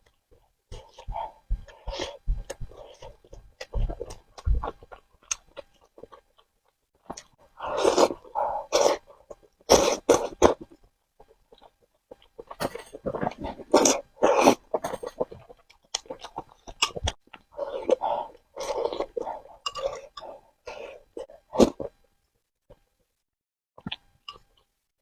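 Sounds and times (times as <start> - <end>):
noodles being chewed and slurped: 0.0 - 22.0.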